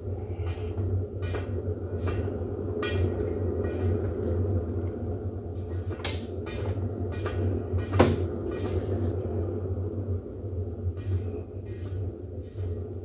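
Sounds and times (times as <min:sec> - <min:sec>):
pottery wheel motor humming: 0:00.0 - 0:13.0.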